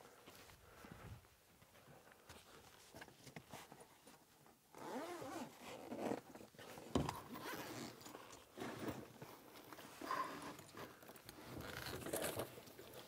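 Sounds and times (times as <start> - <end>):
rustling and handling of gear: 0.0 - 13.0.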